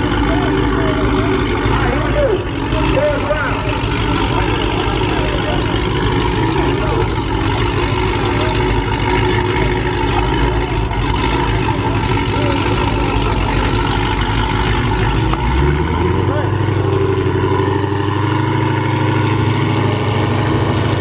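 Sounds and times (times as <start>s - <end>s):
car engine idling loudly: 0.0s - 21.0s.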